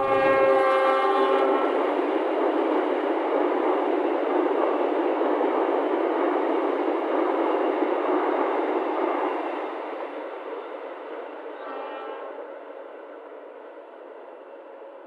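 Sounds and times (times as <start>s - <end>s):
train wheels rolling on rail: 0.0s - 15.0s.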